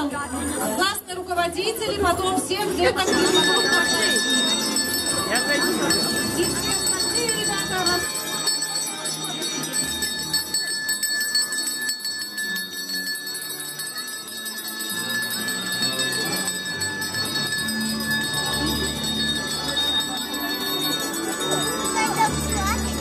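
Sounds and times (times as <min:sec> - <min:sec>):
music: 0:00.0 - 0:23.0
handheld bell ringing: 0:02.6 - 0:23.0.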